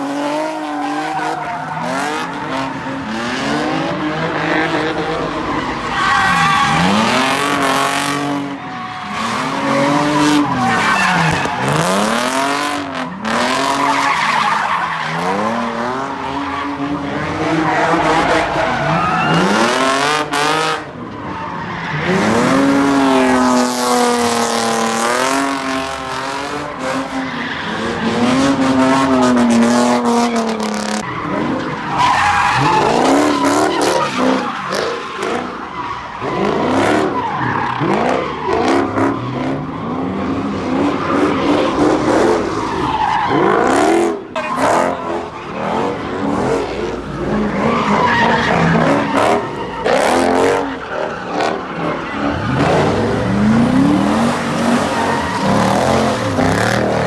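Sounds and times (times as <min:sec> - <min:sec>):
car engines revving: 0:00.0 - 0:57.0
tires squealing: 0:00.0 - 0:57.0.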